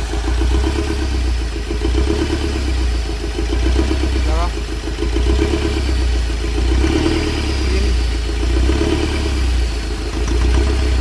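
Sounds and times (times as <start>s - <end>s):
diesel engine knocking: 0.0s - 11.0s.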